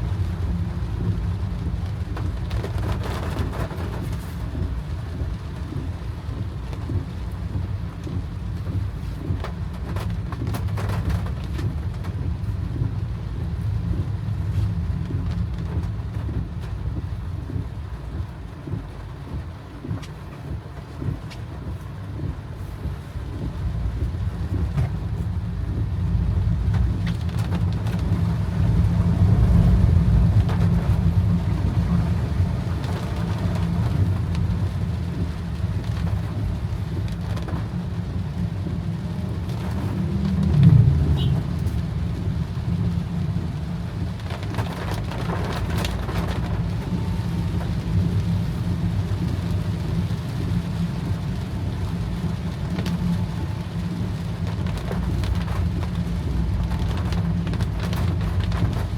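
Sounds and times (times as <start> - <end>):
car engine and tyres on wet road: 0.0 - 58.9
rain on car: 0.0 - 58.9.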